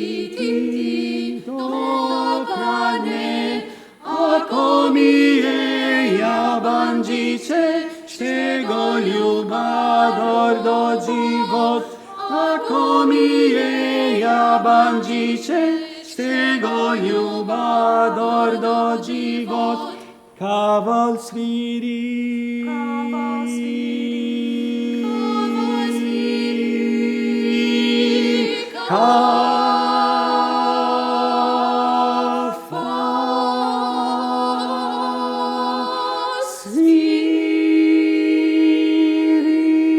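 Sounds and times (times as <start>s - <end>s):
a cappella group singing: 0.0s - 39.9s.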